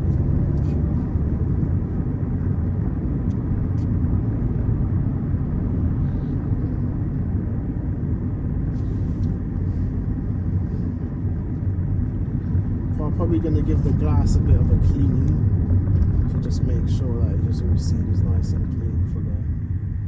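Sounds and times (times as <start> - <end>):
car interior engine and road noise: 0.0 - 20.0.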